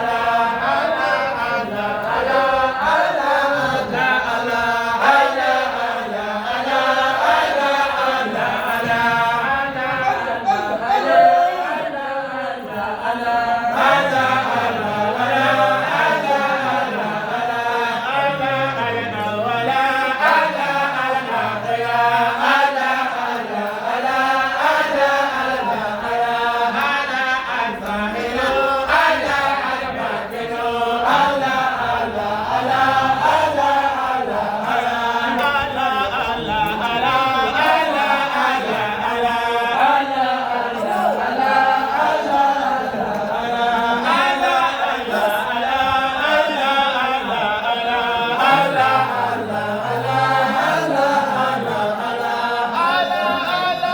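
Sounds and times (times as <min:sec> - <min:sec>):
many voices chanting in unison: 0:00.0 - 0:53.9.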